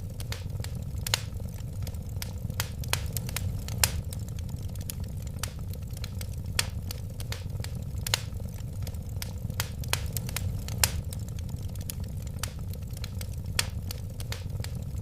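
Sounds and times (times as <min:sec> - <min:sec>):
fire popping and crackling: 0:00.0 - 0:15.0
low rumble of flames: 0:00.0 - 0:15.0.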